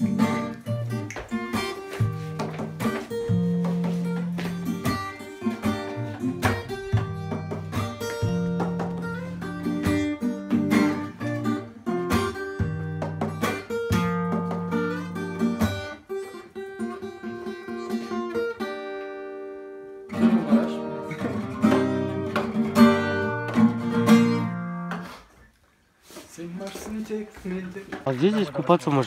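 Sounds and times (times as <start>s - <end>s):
acoustic guitar strumming chords: 0.0s - 25.2s.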